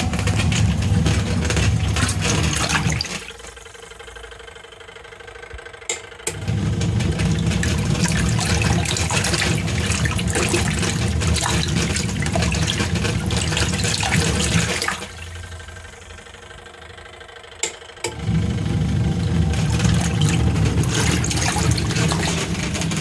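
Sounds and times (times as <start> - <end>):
water sloshing and splashing: 0.0 - 3.8, 6.3 - 16.3, 18.1 - 23.0
faint hum: 0.0 - 23.0
washing machine motor humming: 0.0 - 23.0.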